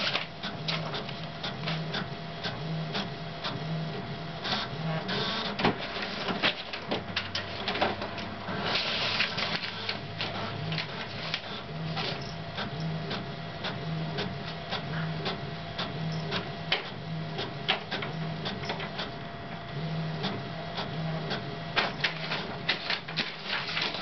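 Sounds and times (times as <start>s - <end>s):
fax machine printing whir: 0.0s - 24.0s.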